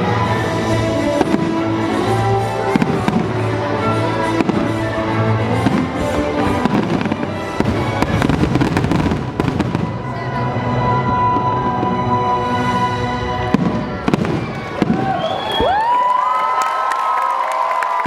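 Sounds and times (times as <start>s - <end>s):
loud show music: 0.0s - 14.8s.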